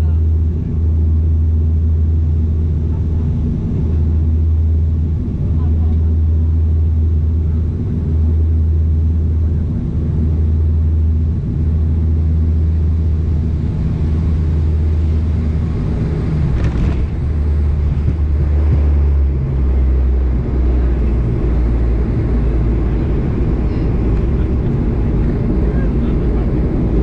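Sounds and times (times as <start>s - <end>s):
airplane engines droning in cabin: 0.0s - 27.0s.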